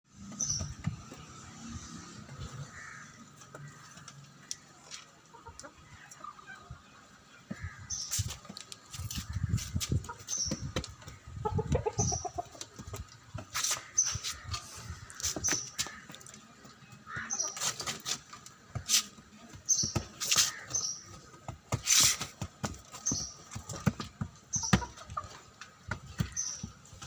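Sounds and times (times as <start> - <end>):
chickens clucking: 0.2 - 27.0.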